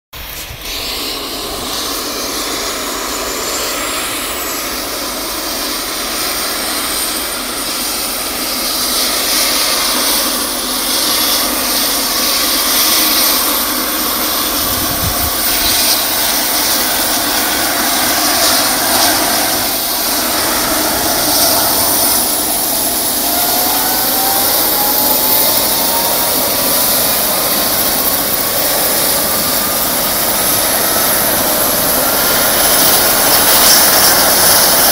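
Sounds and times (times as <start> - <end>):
helicopter rotor: 0.2 - 34.9
helicopter turbine whine: 0.2 - 34.9
second rising whine: 0.2 - 34.9.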